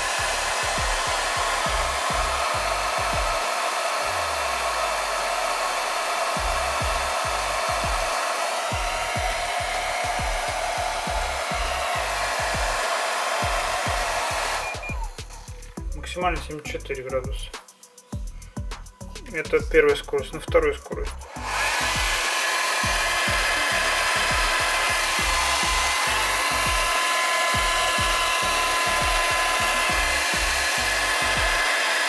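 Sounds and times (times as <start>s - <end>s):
background music beat: 0.0s - 32.0s
hair dryer blowing air: 0.0s - 32.0s.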